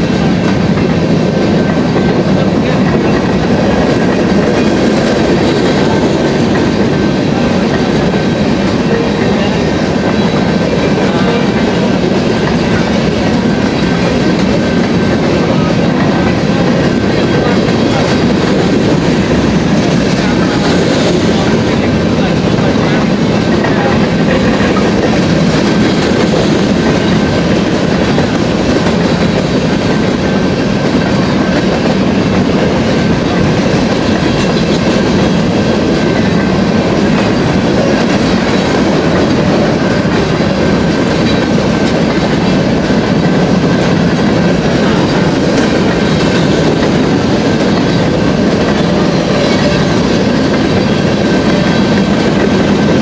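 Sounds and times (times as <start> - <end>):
train wheels clattering over rails: 0.0 - 53.0.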